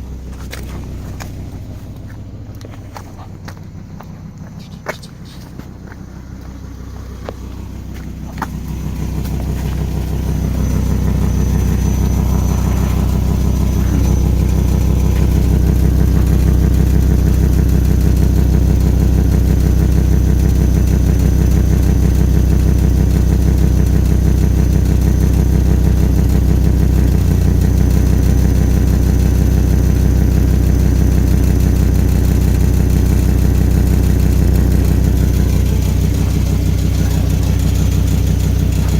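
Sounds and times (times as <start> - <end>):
car engine idling: 0.0 - 38.9
exhaust leaking: 0.0 - 38.9.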